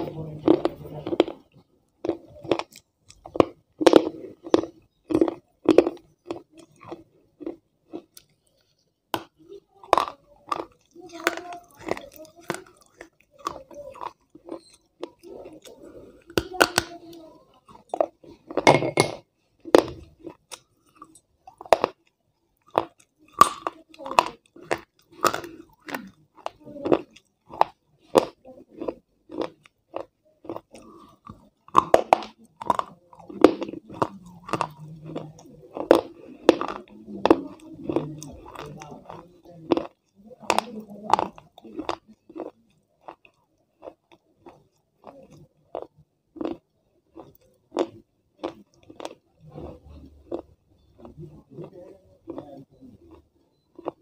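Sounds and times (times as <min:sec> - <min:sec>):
soft chewing: 0:00.0 - 0:54.0.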